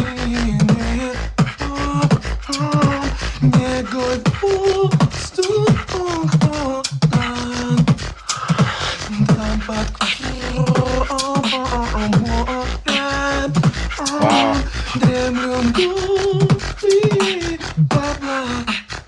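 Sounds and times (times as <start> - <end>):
beatboxing beat: 0.0 - 19.0.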